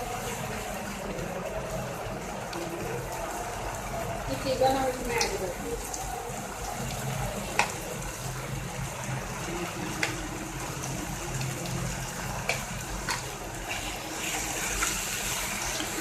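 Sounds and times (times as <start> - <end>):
gravy sizzling in a pan: 0.0 - 16.0.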